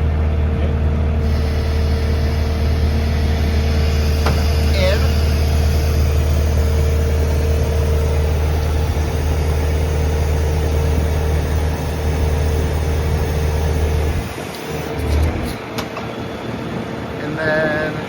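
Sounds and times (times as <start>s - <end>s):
machine engine droning and whining: 1.2s - 17.1s.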